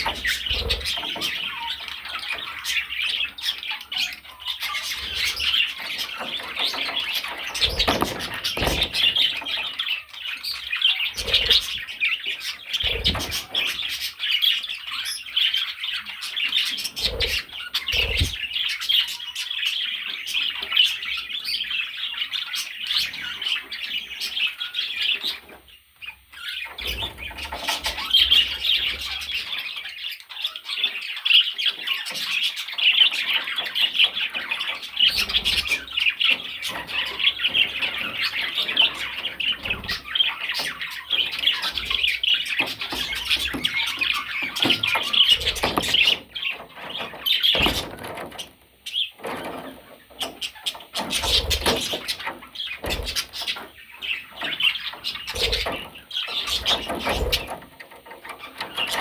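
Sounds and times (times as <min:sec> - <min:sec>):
budgerigar chattering and warbling: 0:00.0 - 0:19.4, 0:26.4 - 0:49.2, 0:50.1 - 0:57.6.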